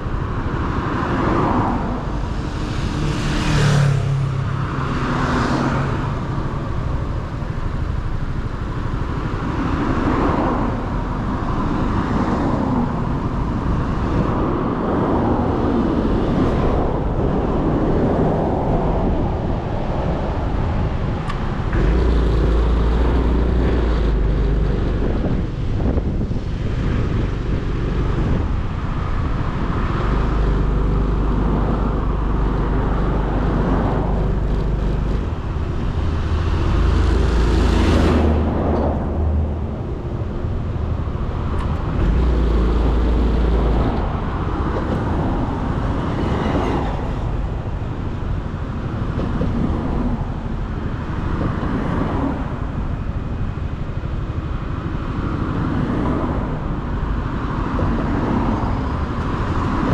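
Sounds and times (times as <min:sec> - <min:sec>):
passing traffic: 0:00.0 - 0:59.9
road noise: 0:00.0 - 0:59.9
wind noise: 0:00.0 - 0:59.9.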